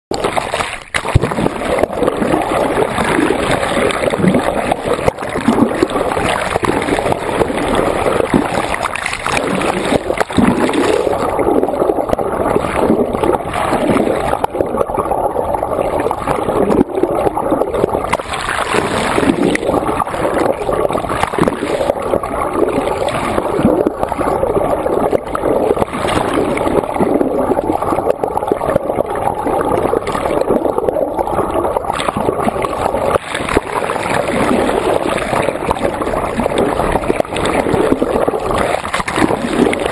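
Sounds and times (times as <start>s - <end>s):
water rushing underwater: 0.1s - 39.9s.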